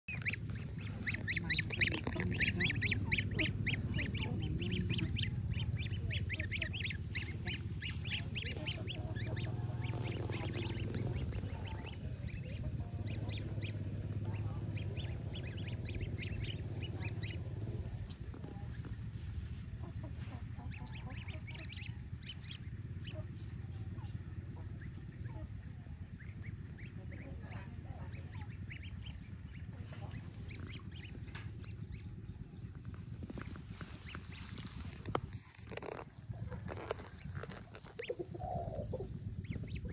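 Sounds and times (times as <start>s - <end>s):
goslings peeping: 0.1s - 39.9s
steady low rumble: 0.1s - 39.9s.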